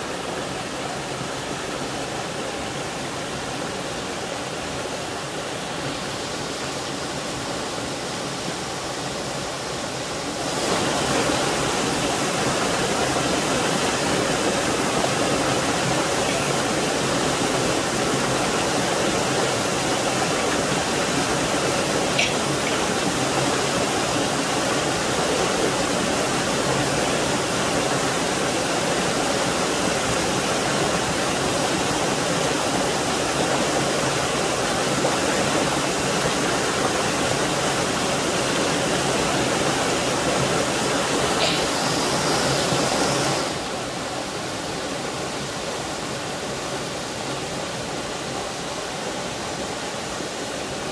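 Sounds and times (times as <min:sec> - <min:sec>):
small waterfall over boulders: 0:00.0 - 0:50.9.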